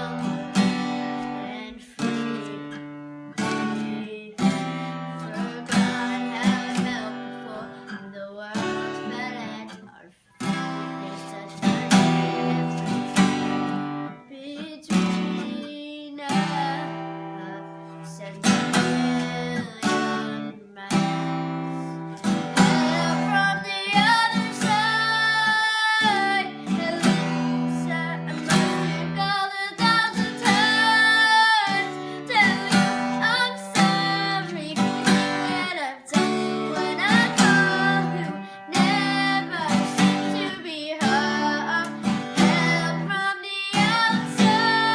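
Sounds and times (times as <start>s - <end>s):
acoustic guitar strumming: 0.0s - 44.9s
person singing: 0.0s - 44.9s.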